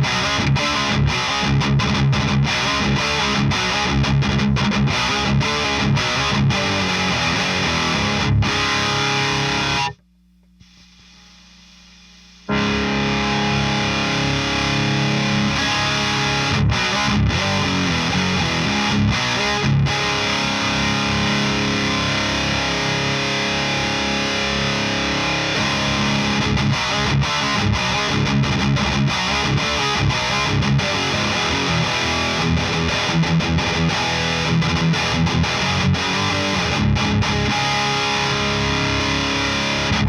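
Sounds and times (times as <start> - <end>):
distorted electric guitar: 0.0 - 40.0
faint amp hum: 0.0 - 40.0.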